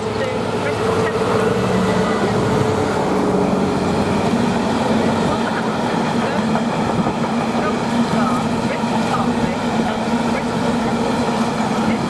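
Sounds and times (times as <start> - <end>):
diesel engine drone: 0.0 - 12.0
wagons on rails: 0.0 - 12.0.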